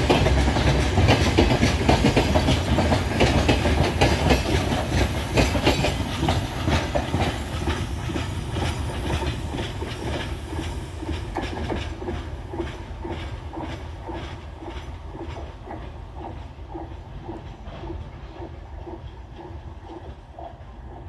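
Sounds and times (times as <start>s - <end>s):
low train rumble: 0.0s - 21.0s
train wheels clacking over rail joints: 0.0s - 21.0s.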